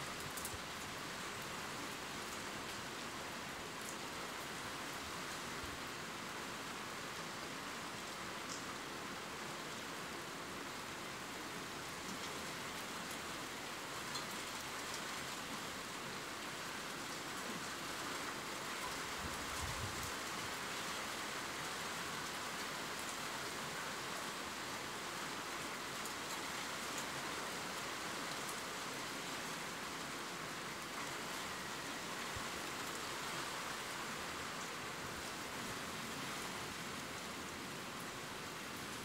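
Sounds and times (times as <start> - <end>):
steady rain: 0.0 - 39.0.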